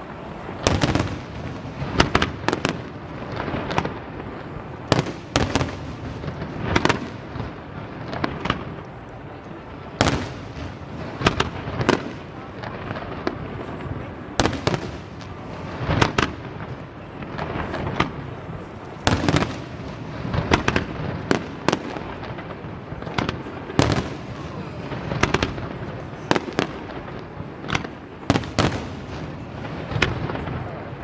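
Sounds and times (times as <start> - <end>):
continuous noisy background: 0.0 - 31.0
fireworks bangs: 0.0 - 31.0.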